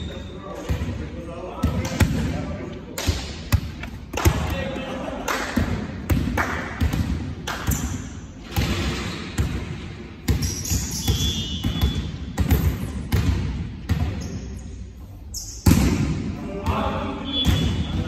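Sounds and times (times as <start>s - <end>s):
volleyballs struck and bouncing: 0.5s - 4.7s, 5.3s - 14.4s, 15.5s - 18.0s.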